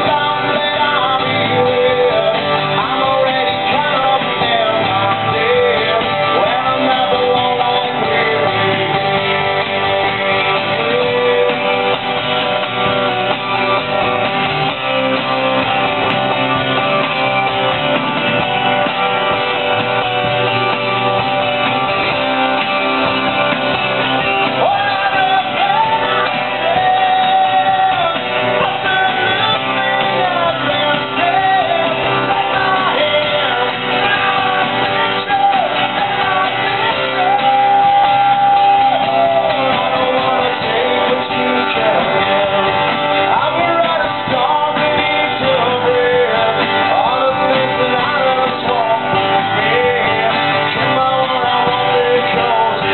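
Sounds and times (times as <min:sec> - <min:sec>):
person singing: 0:00.0 - 0:18.4, 0:23.5 - 0:52.9
bass guitar: 0:00.0 - 0:52.9
strummed acoustic guitars: 0:00.0 - 0:52.9.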